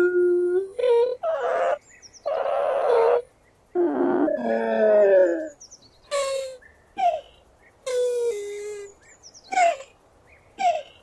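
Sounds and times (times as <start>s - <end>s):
turtle calling: 0.0s - 10.0s, 10.6s - 11.0s.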